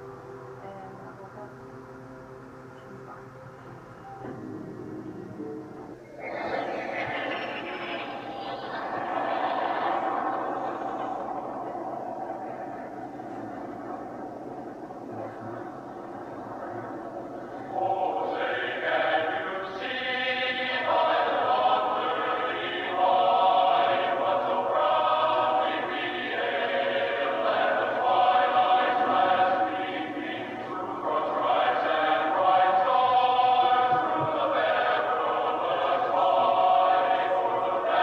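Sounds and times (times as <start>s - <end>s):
choir singing held chords: 0.0s - 38.0s.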